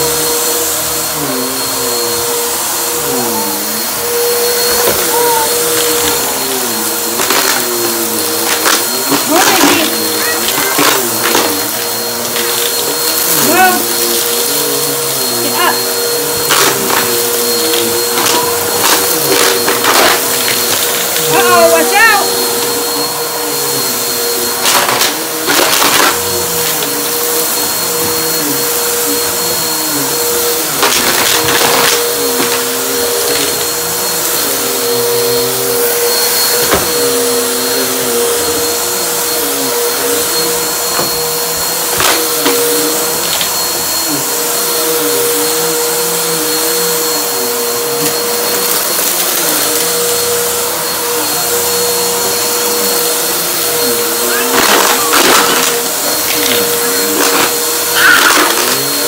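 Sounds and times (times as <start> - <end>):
upright vacuum cleaner running: 0.0 - 59.0
vacuum crunching dry crumbs: 0.0 - 59.0.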